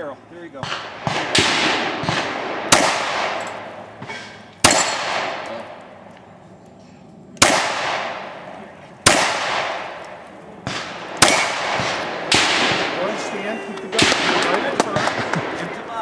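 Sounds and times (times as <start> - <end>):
pistol shots echoing: 0.6 - 6.1, 7.4 - 16.0.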